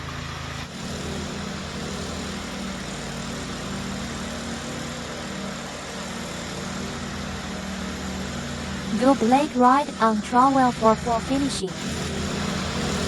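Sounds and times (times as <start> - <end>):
power trowel engine humming: 0.0 - 13.0.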